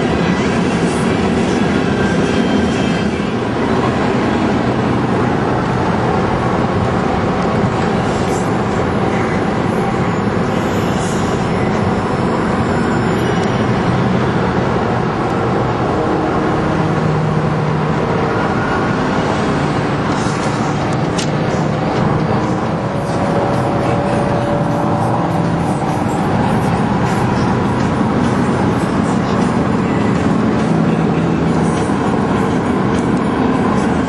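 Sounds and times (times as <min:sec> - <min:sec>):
car engine: 0:00.0 - 0:34.0.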